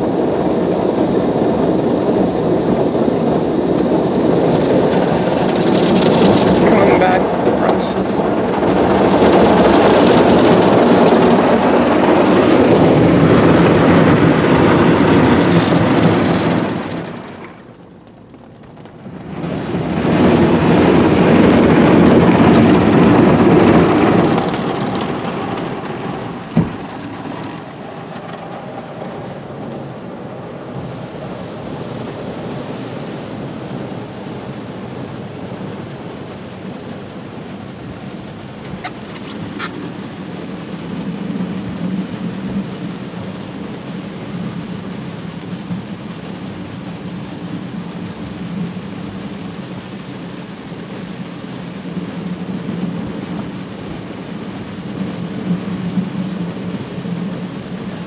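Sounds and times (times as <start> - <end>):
car wash spray and brushes: 0.0 - 58.0.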